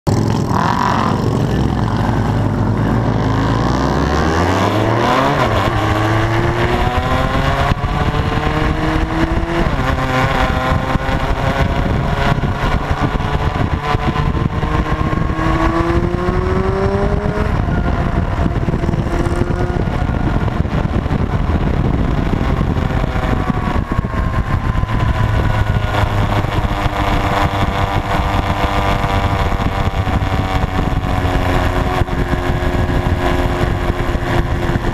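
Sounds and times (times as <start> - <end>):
motorcycle engines revving: 0.1 - 34.9.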